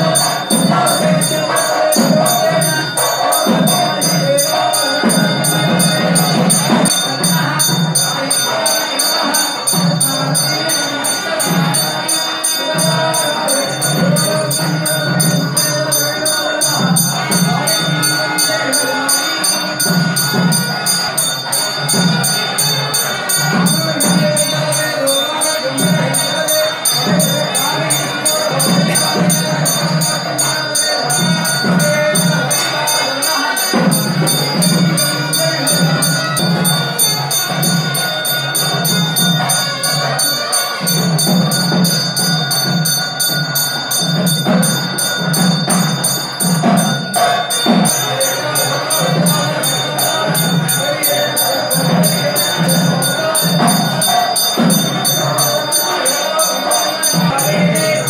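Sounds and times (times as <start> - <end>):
metal percussion ringing: 0.0 - 58.0
voices chanting: 0.0 - 58.0.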